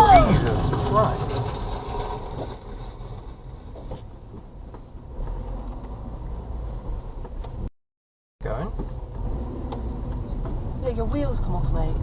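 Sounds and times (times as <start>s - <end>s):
vehicle driving rumble: 0.0s - 7.7s, 8.4s - 12.0s.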